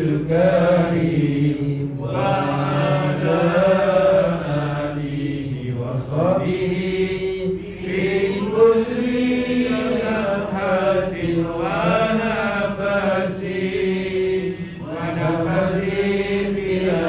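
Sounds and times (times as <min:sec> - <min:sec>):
person chanting devotionally: 0:00.0 - 0:17.0.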